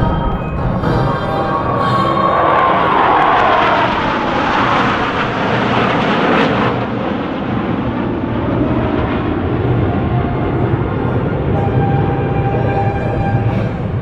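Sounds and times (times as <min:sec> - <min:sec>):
jet roar: 0:00.0 - 0:14.0.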